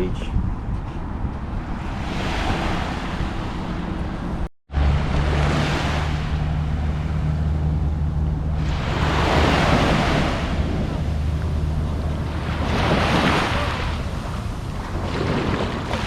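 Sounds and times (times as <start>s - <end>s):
wind rumble on microphone: 0.0s - 16.0s
ocean surf washing up: 1.8s - 16.0s.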